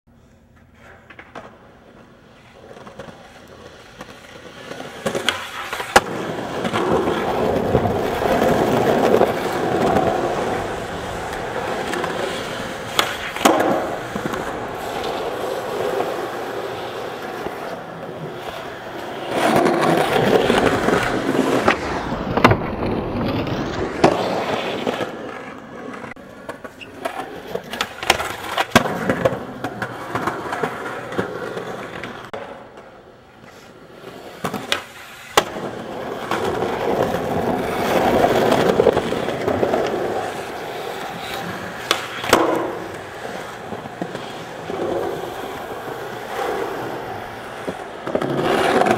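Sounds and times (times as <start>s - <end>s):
skateboard wheels rolling on concrete: 0.1s - 48.9s
skateboard clacks: 0.6s - 48.9s.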